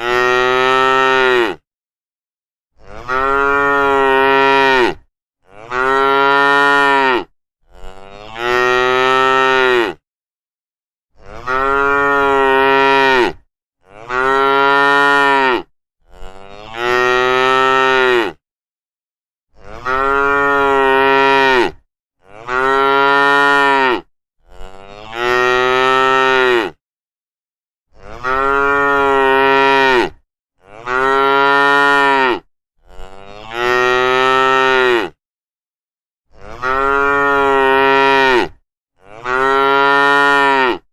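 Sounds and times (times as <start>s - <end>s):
cow mooing: 0.0s - 1.6s, 2.8s - 10.0s, 11.2s - 18.4s, 19.6s - 26.8s, 27.9s - 35.2s, 36.3s - 40.9s.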